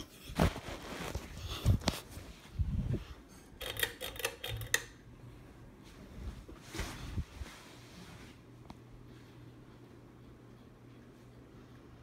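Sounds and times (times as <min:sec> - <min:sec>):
ceiling fan running: 0:00.0 - 0:12.0
faint low hum: 0:00.0 - 0:12.0.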